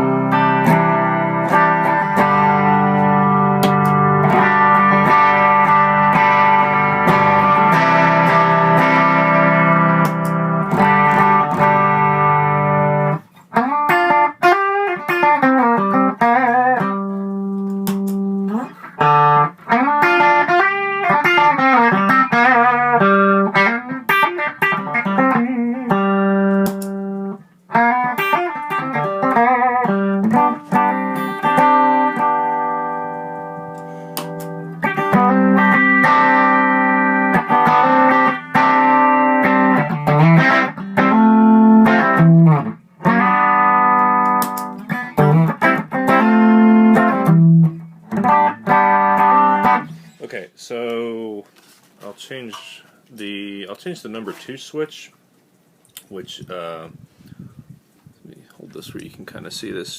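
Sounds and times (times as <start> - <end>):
electric guitar playing: 0.0 - 50.2.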